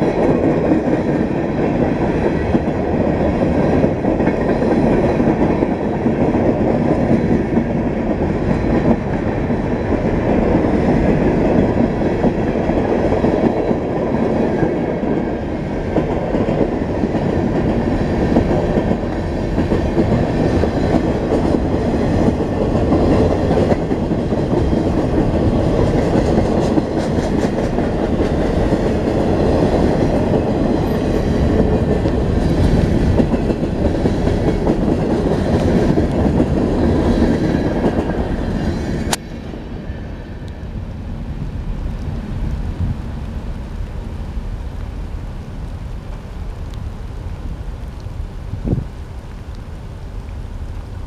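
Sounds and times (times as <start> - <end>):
train wheels rumbling and clacking: 0.0 - 46.8
steady hiss: 0.4 - 51.0.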